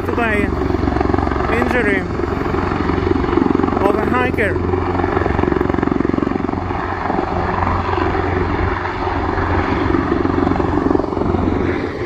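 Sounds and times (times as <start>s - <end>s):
helicopter rotor rumble: 0.0s - 12.0s.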